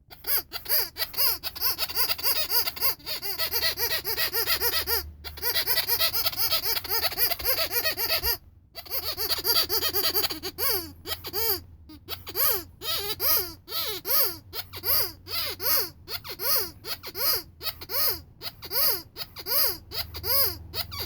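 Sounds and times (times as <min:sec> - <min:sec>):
rubber squeaky toy squeaks: 0:00.0 - 0:21.0.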